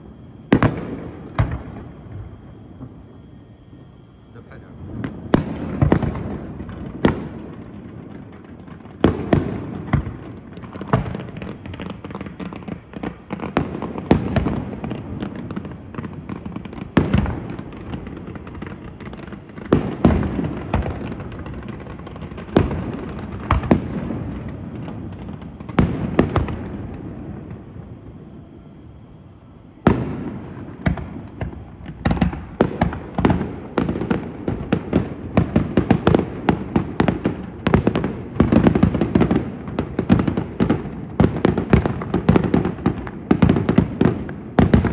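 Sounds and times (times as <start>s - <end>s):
fireworks booming: 0.0s - 44.9s.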